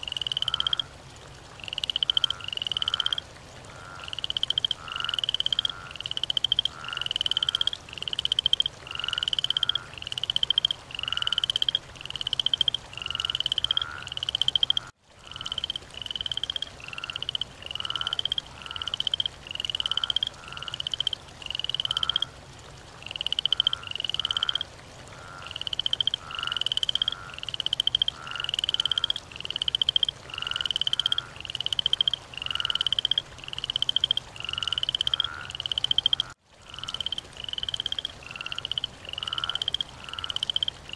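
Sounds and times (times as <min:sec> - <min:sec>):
frog croaking: 0:00.0 - 0:22.3, 0:23.0 - 0:40.9.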